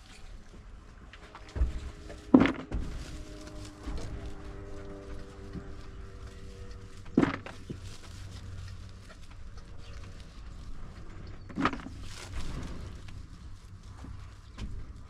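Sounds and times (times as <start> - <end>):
low steady background rumble: 0.0 - 15.0.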